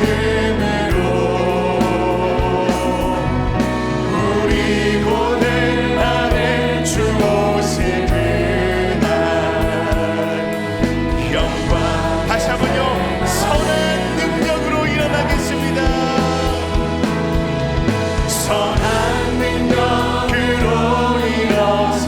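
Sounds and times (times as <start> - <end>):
people singing: 0.0 - 22.0
praise band playing: 0.0 - 22.0.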